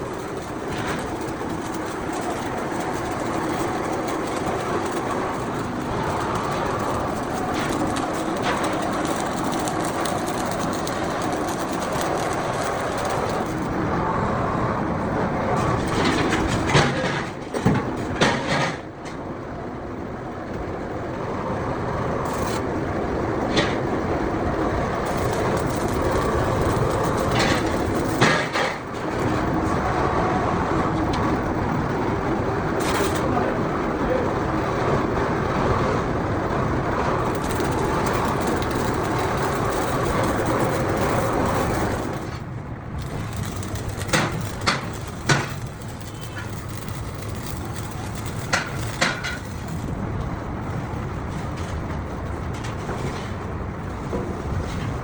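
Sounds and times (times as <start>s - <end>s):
workshop machine noise: 0.0s - 19.4s, 21.8s - 55.0s.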